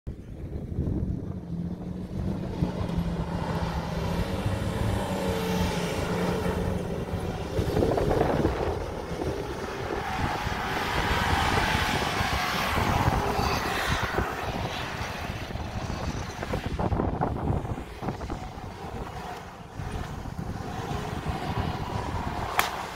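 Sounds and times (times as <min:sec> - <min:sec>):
tyres churning sand: 0:01.8 - 0:22.9.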